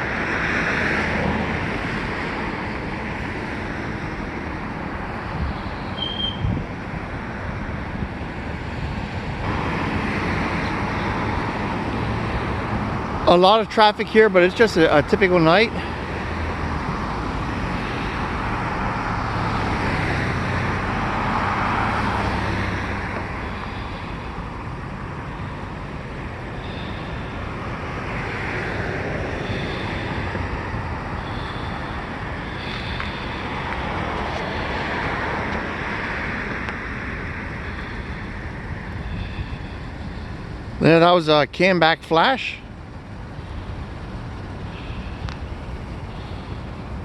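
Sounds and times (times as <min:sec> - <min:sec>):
cars passing: 0:00.0 - 0:47.0
low traffic rumble: 0:00.0 - 0:47.0.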